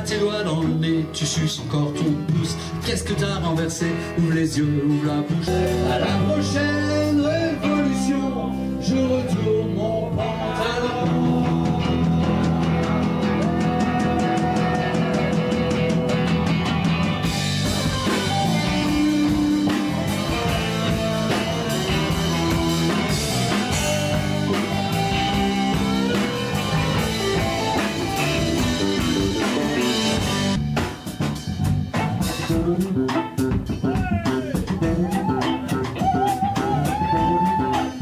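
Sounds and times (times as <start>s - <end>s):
bass guitar: 0.0s - 38.0s
electric guitar: 0.0s - 38.0s
drum kit with cymbals: 5.4s - 8.8s, 9.4s - 38.0s.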